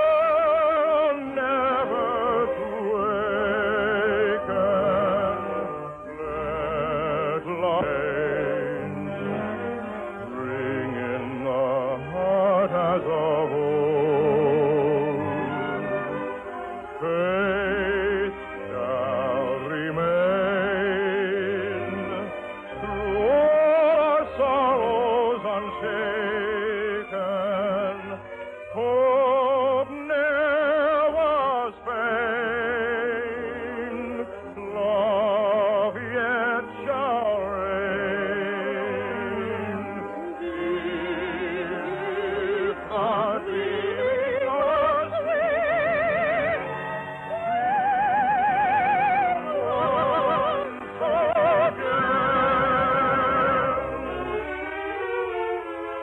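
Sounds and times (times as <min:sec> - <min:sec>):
operatic singing: 0:00.0 - 0:56.0
orchestral accompaniment: 0:00.0 - 0:56.0.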